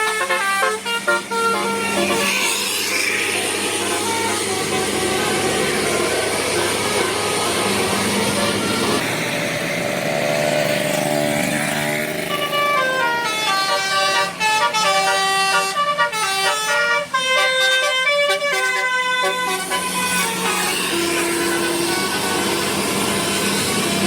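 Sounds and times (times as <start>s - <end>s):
multi-tone bus horn playing a tune: 0.0s - 9.4s, 11.6s - 24.0s.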